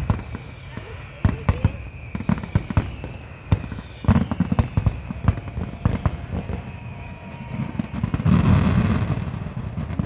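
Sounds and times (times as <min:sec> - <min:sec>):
fireworks exploding: 0:00.0 - 0:10.0.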